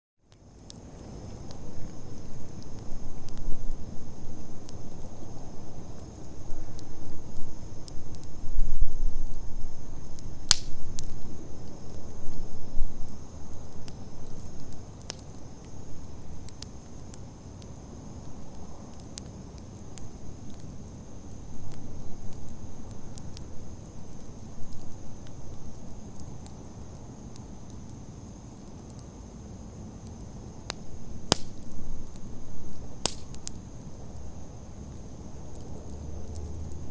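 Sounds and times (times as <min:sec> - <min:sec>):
campfire crackling and popping: 0:00.3 - 0:36.9.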